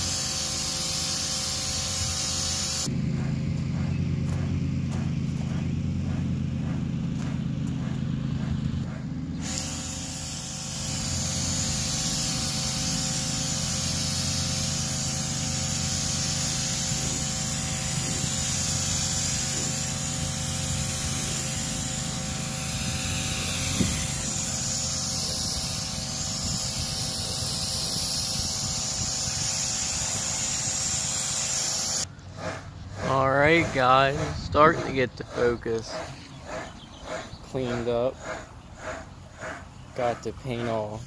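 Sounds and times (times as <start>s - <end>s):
water jet hissing: 0.0s - 2.9s, 8.9s - 41.0s
pressure washer pump humming: 0.0s - 41.0s.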